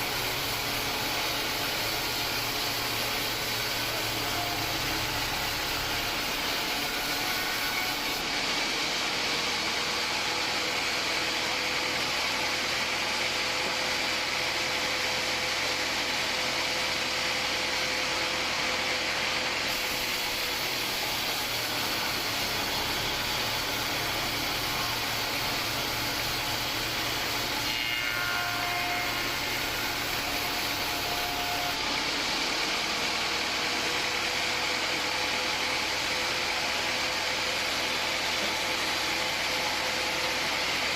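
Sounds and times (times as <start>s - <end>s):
band sawmill sawing a log: 0.0s - 40.9s.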